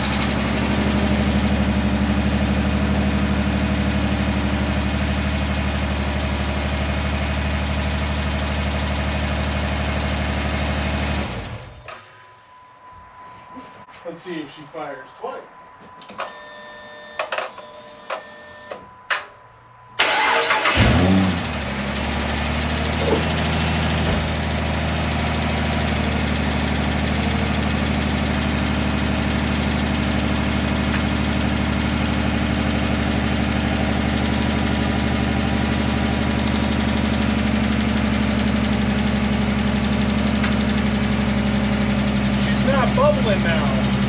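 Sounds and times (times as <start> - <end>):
car engine starting and idling: 0.0 - 12.3, 17.2 - 44.0.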